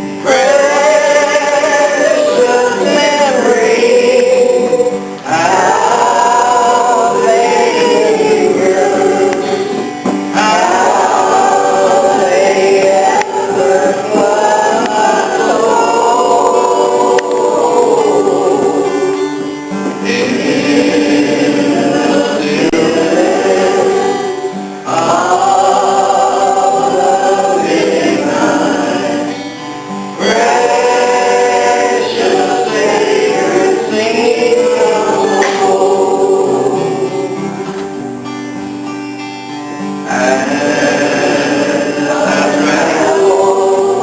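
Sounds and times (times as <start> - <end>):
group singing gospel in harmony: 0.0 - 39.2, 39.8 - 44.0
instrumental accompaniment: 0.0 - 44.0.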